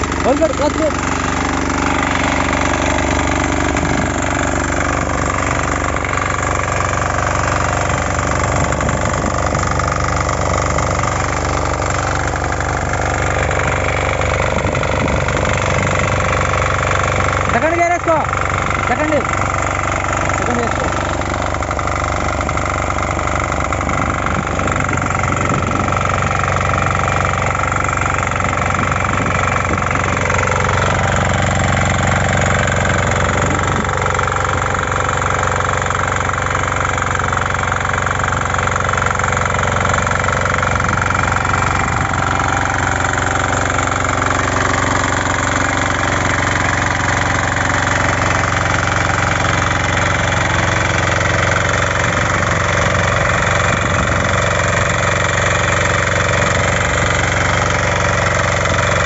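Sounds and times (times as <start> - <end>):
diesel weeder engine running: 0.0 - 59.0.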